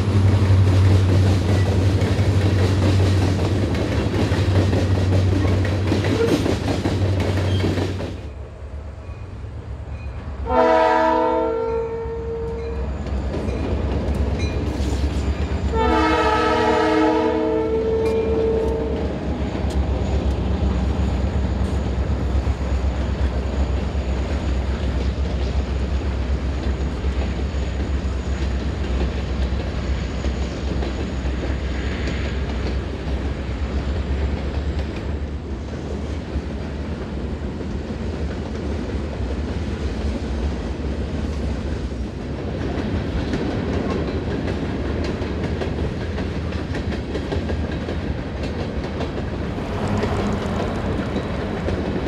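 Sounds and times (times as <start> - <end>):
train wheels clattering on rail: 0.0 - 8.4, 12.4 - 52.0
diesel locomotive rumble: 0.0 - 11.5, 12.2 - 52.0.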